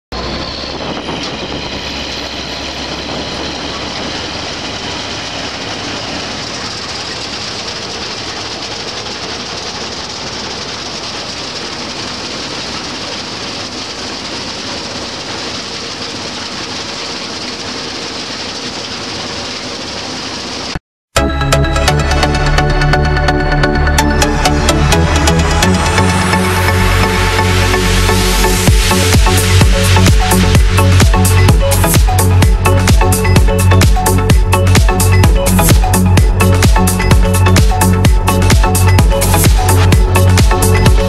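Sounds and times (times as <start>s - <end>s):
combine harvester engine hum: 0.1s - 41.0s.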